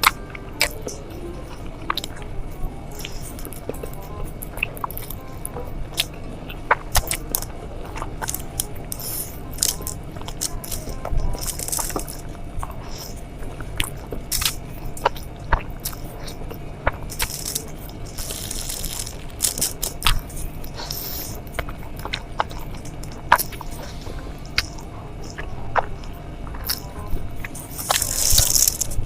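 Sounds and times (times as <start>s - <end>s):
crunchy bites and chewing: 2.9s - 29.0s.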